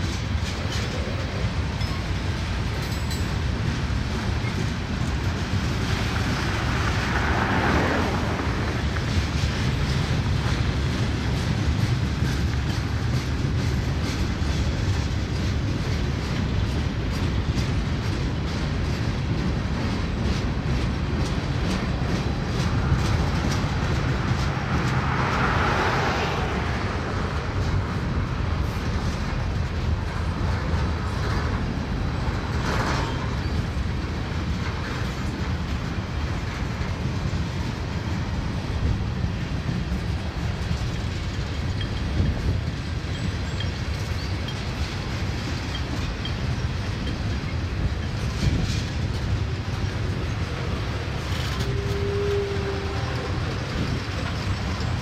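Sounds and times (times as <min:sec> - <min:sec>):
freight train wheels clicking: 0:00.0 - 0:55.0
low train rumble: 0:00.0 - 0:55.0.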